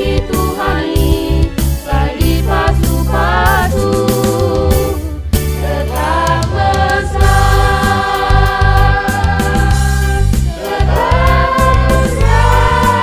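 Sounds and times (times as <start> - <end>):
vocal group singing in harmony: 0.0 - 13.0.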